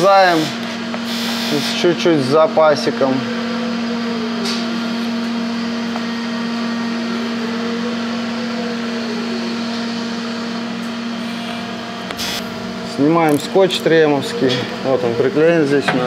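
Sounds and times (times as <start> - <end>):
electric fan motor humming: 0.0 - 16.0.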